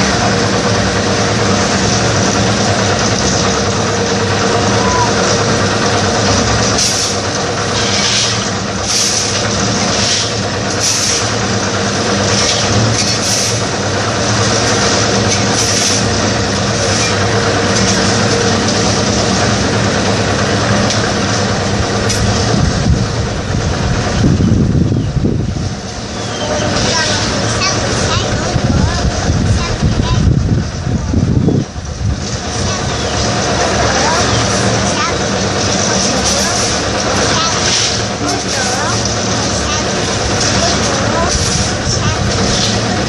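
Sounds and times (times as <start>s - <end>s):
concrete mixer engine running: 0.0s - 43.0s.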